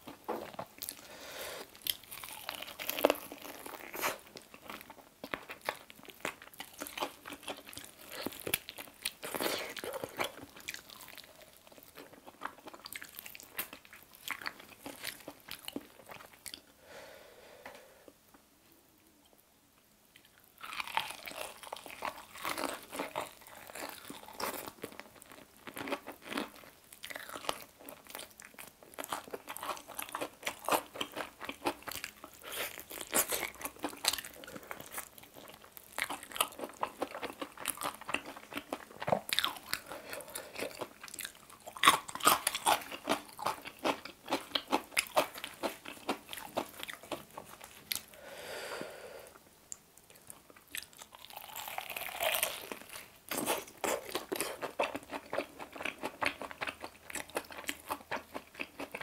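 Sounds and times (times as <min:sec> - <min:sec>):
crunching and chewing fried chicken: 0:00.0 - 0:16.7, 0:20.2 - 0:48.3, 0:50.1 - 0:59.0.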